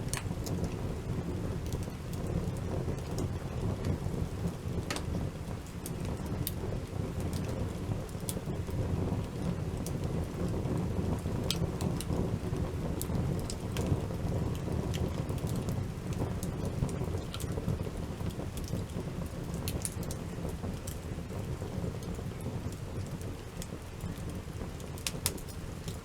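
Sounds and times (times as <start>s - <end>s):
campfire crackling and popping: 0.0s - 26.0s
fire low rumble: 0.0s - 26.0s.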